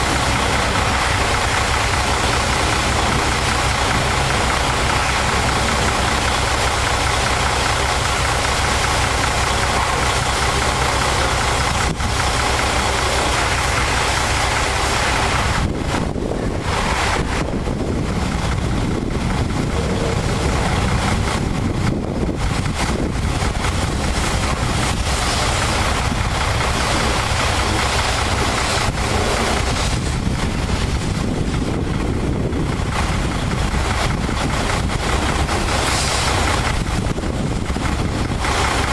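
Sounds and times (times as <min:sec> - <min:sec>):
high-pressure water spray hissing: 0:00.0 - 0:31.8, 0:32.6 - 0:38.9
truck engine running: 0:00.0 - 0:38.9.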